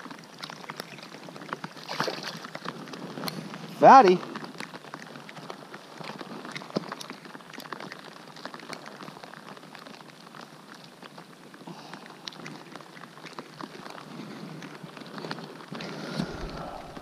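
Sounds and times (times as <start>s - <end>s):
rain falling on a lake: 0.0s - 17.0s.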